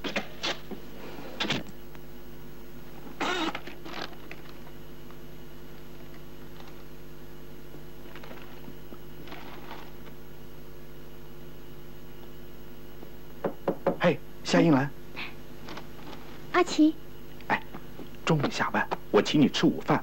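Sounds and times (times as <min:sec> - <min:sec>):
low film soundtrack hum: 0:00.0 - 0:20.0.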